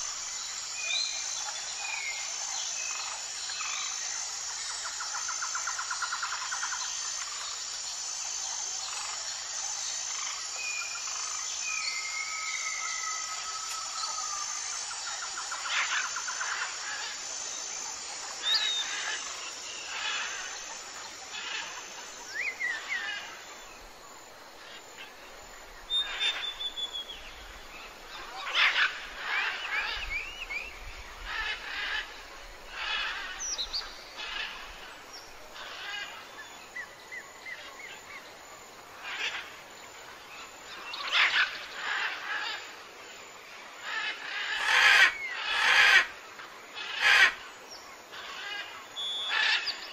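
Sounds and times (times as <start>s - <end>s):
faint steady hiss: 0.0s - 49.9s.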